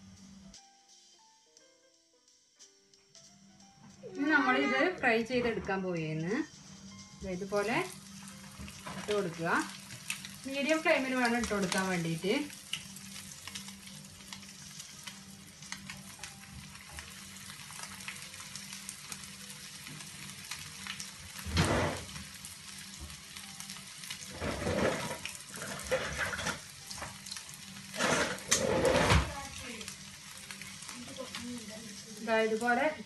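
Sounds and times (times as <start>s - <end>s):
food sizzling in hot oil: 4.0s - 33.0s.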